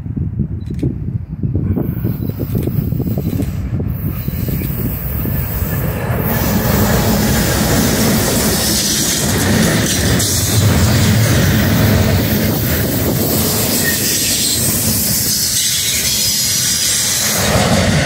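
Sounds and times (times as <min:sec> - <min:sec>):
freight train rumbling past: 0:01.6 - 0:18.0.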